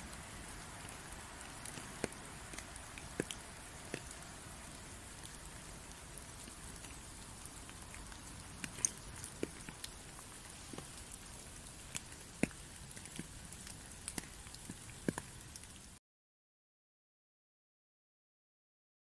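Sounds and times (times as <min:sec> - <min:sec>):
rain on leaves: 0:00.0 - 0:16.0
single raindrops: 0:00.0 - 0:16.0.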